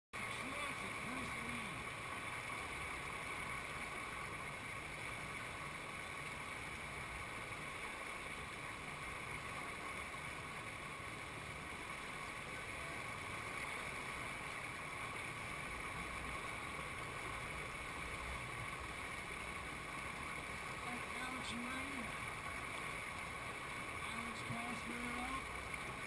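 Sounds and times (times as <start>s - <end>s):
river whitewater rushing: 0.2s - 26.0s.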